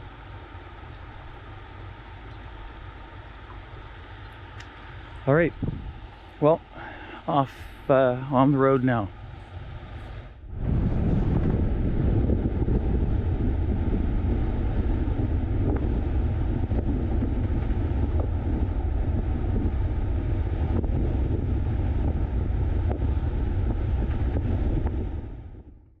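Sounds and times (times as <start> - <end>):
road and engine rumble: 0.0 - 26.0
wind buffeting microphone: 0.0 - 26.0.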